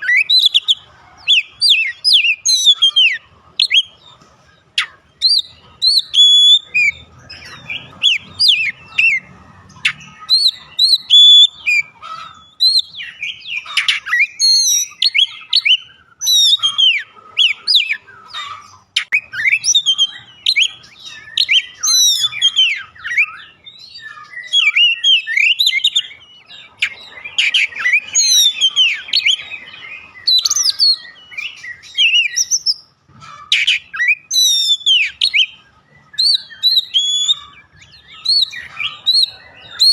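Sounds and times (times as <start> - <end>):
bird singing whistled song: 0.0 - 18.3, 18.9 - 39.9.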